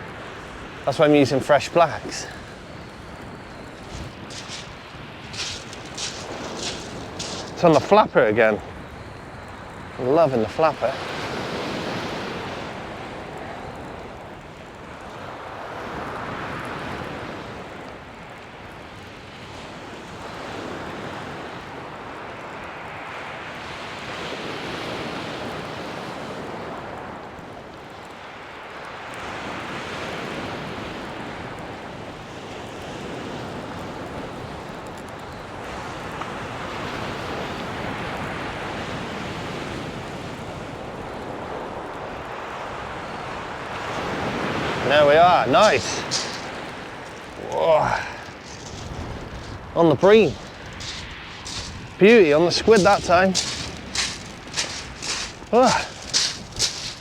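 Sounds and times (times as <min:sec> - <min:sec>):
waves breaking on shingle beach: 0:00.0 - 0:18.2, 0:28.6 - 0:34.7, 0:35.5 - 0:57.0.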